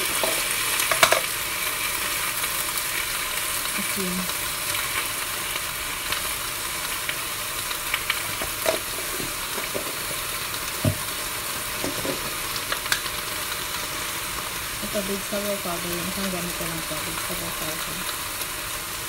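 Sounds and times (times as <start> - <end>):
greens sizzling in a wok: 0.0 - 19.0.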